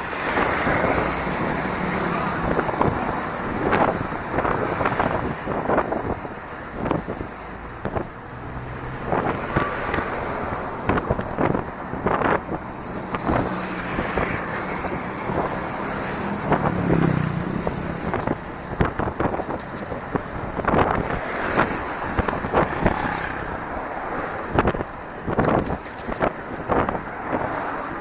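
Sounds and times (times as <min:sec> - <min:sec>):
bike rattles and knocks: 0:00.0 - 0:28.0
wind on microphone: 0:00.0 - 0:28.0.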